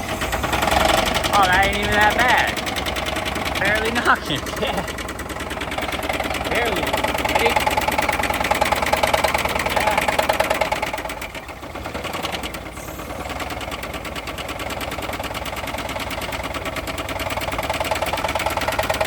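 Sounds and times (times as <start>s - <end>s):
car engine idling with knock: 0.0s - 19.0s.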